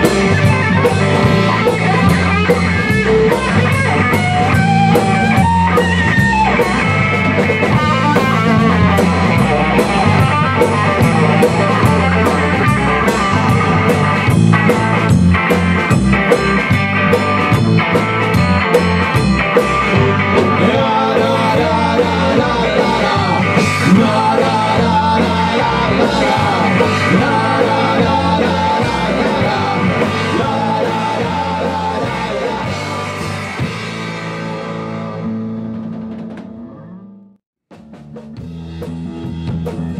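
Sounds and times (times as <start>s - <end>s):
drum and cymbal hits: 0.0s - 36.6s, 37.7s - 39.9s
live rock band playing: 0.0s - 39.9s.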